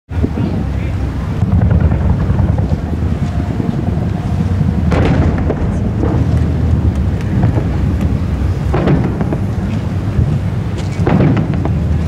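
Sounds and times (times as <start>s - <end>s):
firework booms: 0.7s - 12.0s
firework cracks: 1.4s - 12.0s.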